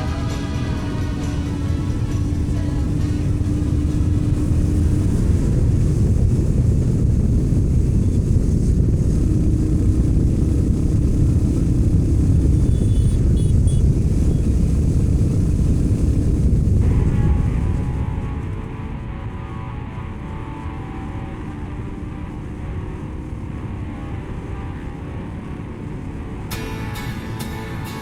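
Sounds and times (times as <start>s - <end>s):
motorcycle engine running: 0.0s - 28.0s
music: 0.0s - 28.0s
wind rumble on microphone: 0.0s - 28.0s.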